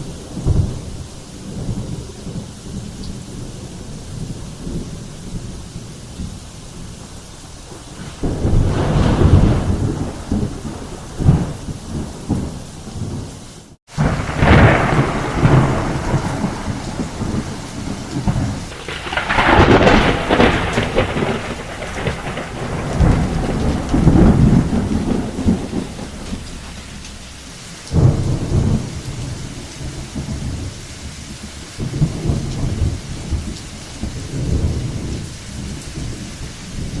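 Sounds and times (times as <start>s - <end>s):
heavy rain: 0.0s - 37.0s
rolling thunder: 0.0s - 37.0s.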